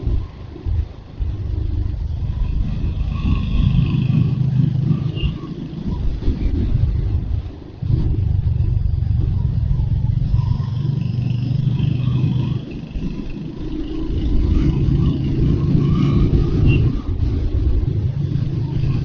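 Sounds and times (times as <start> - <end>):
motorcycle engine running: 0.1 - 19.0.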